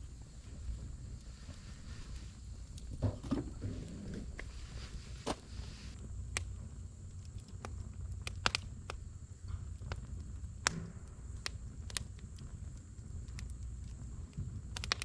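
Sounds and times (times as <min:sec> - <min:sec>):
campfire crackling and popping: 0:00.0 - 0:15.0
low steady rumble: 0:00.0 - 0:15.0.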